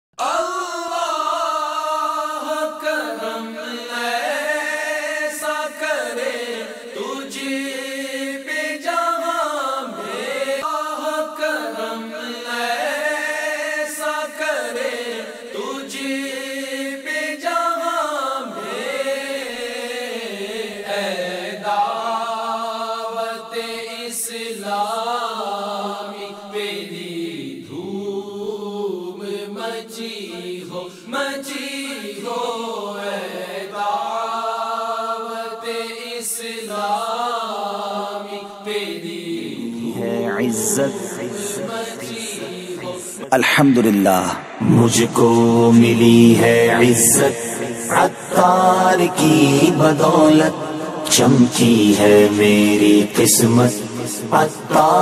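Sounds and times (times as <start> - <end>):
devotional vocal chanting: 0.2 - 55.0.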